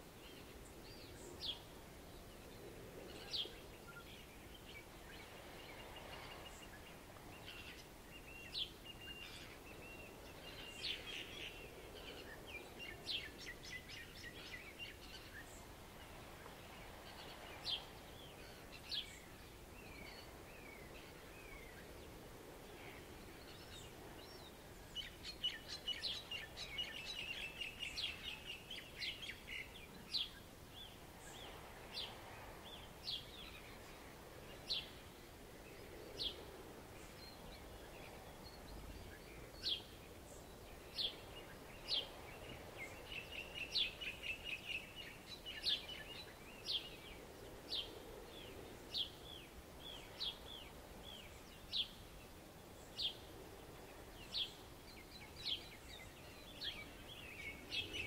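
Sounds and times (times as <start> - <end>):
faint surf: 0.0 - 58.0
birds chirping and twittering: 0.2 - 58.0.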